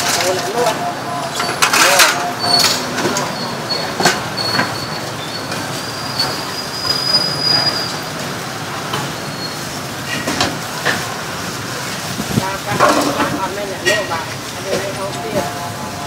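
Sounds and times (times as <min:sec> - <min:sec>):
hot oil sizzling and crackling: 0:00.0 - 0:16.0.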